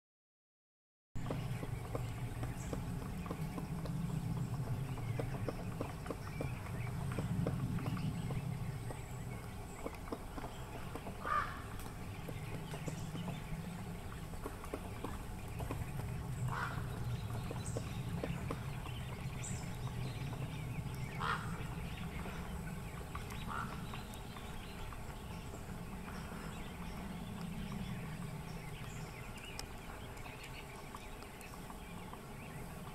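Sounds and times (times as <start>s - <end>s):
bird call notes: 1.2s - 32.8s
low rumble: 1.2s - 32.9s
woodpecker tapping on wood: 1.2s - 32.9s.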